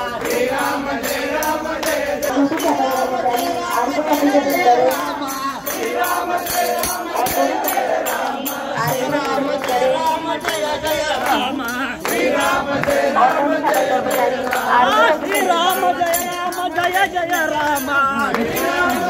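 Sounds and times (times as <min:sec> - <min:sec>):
group singing a devotional chant: 0:00.0 - 0:19.0
rhythmic hand-clapping: 0:00.0 - 0:19.0.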